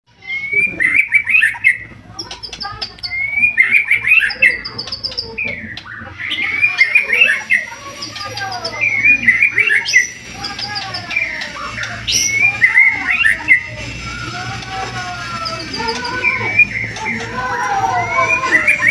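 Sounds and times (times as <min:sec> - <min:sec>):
bird whistling song: 0:00.1 - 0:18.9
high sharp bird notes: 0:00.1 - 0:18.9.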